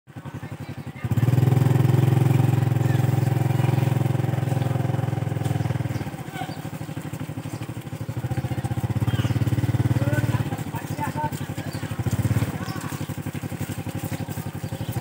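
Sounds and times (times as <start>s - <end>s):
small motorcycle engine running: 0.1s - 15.0s.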